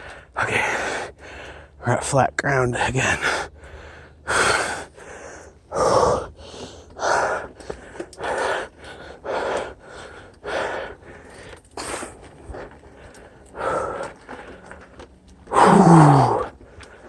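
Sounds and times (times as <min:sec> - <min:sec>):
heavy hard breathing: 0:00.0 - 0:01.9, 0:02.8 - 0:17.0.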